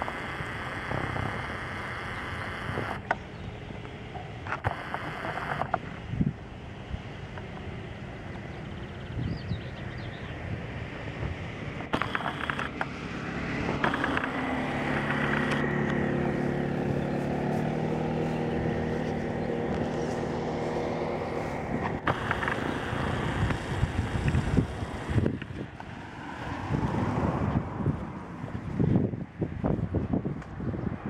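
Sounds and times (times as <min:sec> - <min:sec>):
engine humming: 0:00.0 - 0:31.0
uneven rumbling noise: 0:00.0 - 0:31.0.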